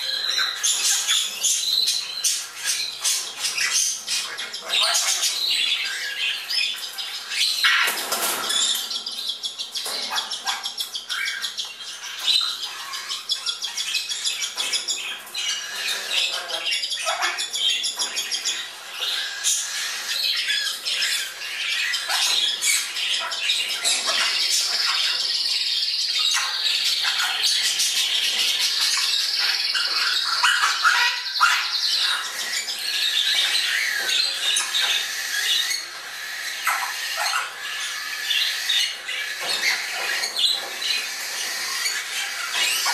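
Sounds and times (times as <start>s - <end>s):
parrots squawking: 0.0s - 42.9s.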